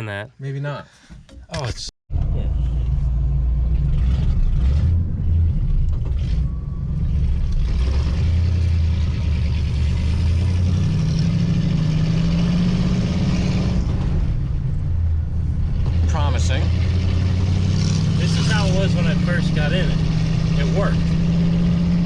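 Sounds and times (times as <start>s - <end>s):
car engine running: 2.1s - 22.0s.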